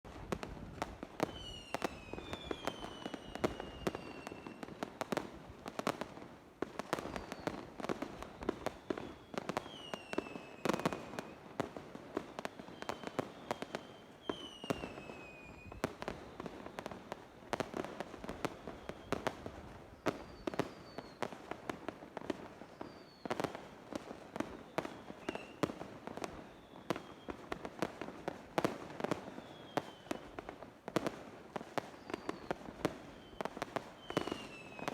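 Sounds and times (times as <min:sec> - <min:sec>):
fireworks bangs and crackling: 0:00.0 - 0:34.9
whistling firework shells: 0:00.1 - 0:34.9.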